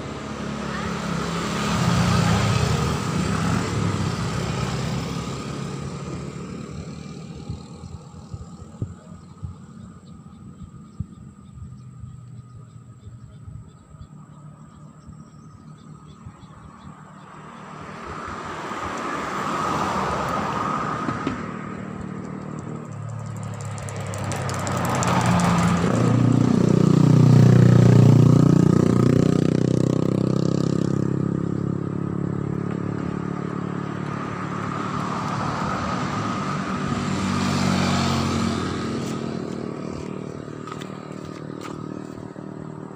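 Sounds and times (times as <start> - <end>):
motor vehicles passing by: 0.0 - 42.9.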